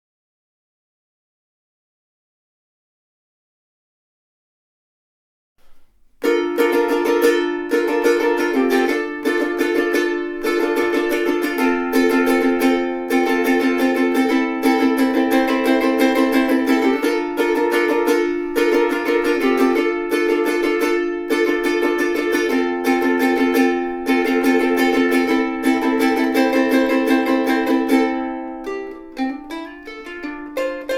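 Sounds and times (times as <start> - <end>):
ukulele strumming chords: 5.6 - 30.9.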